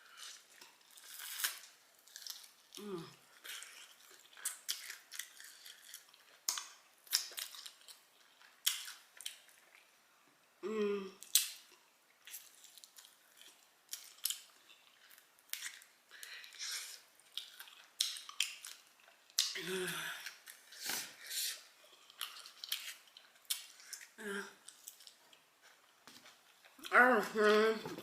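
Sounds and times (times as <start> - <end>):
chewing crunches: 0.1 - 9.9, 11.2 - 19.6, 21.8 - 27.0.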